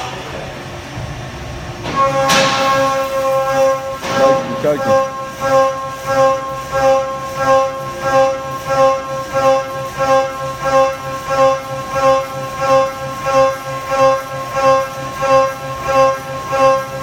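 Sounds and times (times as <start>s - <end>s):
end mill cutting steel whine: 1.8s - 17.0s.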